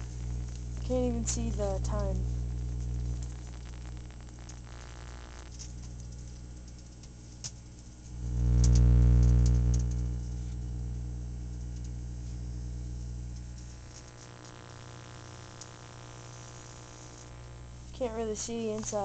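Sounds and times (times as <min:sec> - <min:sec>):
microwave oven humming: 0:00.0 - 0:19.0
sharp crackles of burning: 0:00.0 - 0:19.0.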